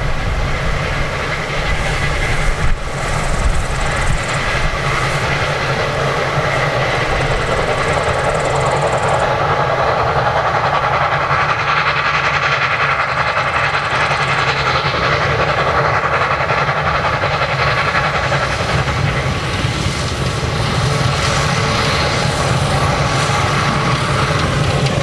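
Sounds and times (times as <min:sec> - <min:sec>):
carriages on rails: 0:00.0 - 0:25.0
steam locomotive working: 0:00.0 - 0:25.0.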